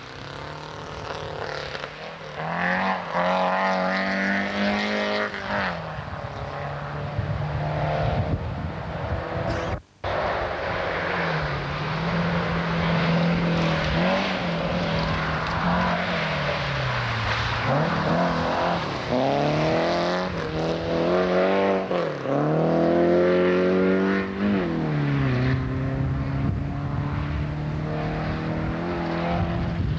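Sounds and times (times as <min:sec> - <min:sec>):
rally car engine revving: 0:00.0 - 0:29.9.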